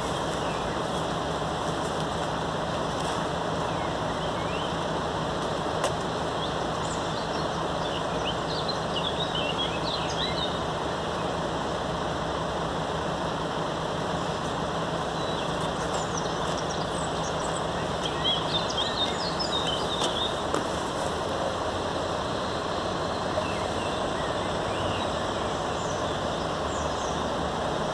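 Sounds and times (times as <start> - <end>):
small birds chirping: 0.0 - 11.7, 13.8 - 27.9
street noise: 0.0 - 27.9.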